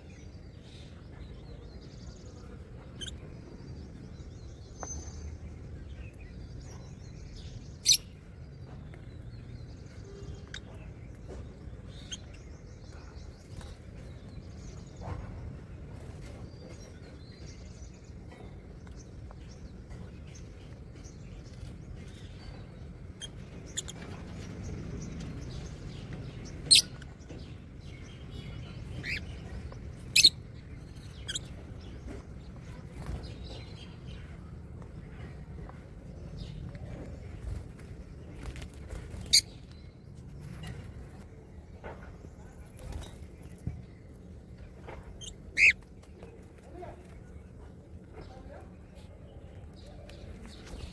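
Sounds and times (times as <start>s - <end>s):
pet birds chirping: 0.0s - 50.9s.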